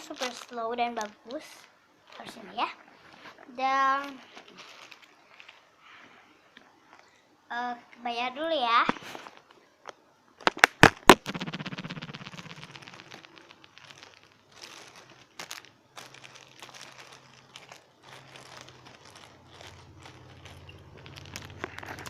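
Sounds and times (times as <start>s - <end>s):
plastic crinkling and rustling: 0.0s - 7.2s, 8.8s - 22.0s.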